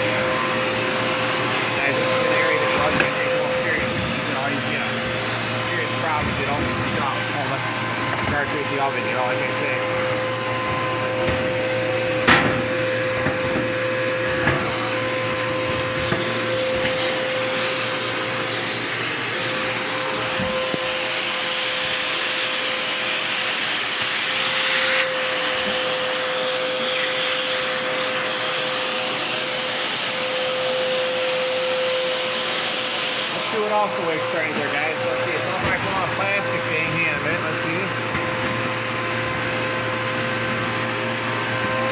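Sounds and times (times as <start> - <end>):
vacuum cleaner motor and suction: 0.0 - 41.9.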